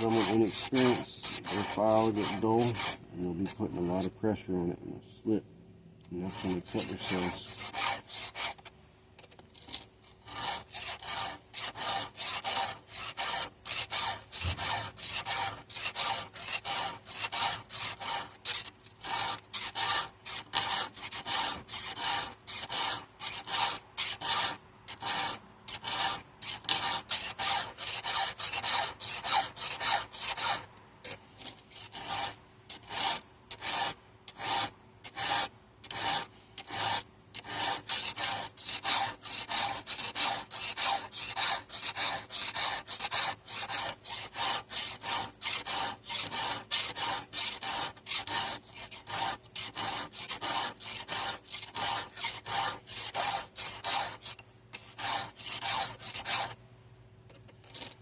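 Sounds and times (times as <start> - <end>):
file rasping on chainsaw chain: 0.0 - 4.1, 6.1 - 8.7, 9.5 - 56.6, 57.4 - 58.0.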